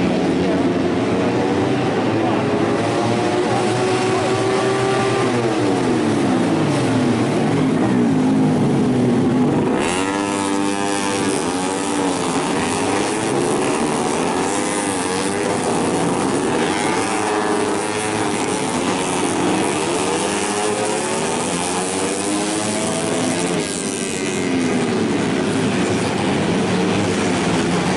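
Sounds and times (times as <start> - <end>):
race motorcycles revving past: 0.0 - 27.9.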